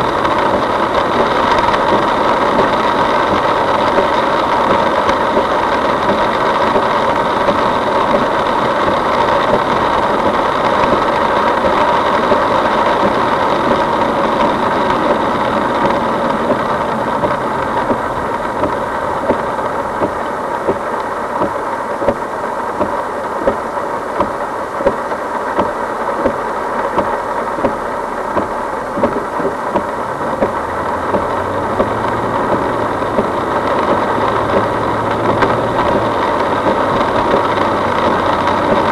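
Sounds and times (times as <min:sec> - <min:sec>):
car engine humming: 0:00.0 - 0:38.9
heavy rain on car: 0:00.0 - 0:38.9
road noise: 0:00.0 - 0:38.9.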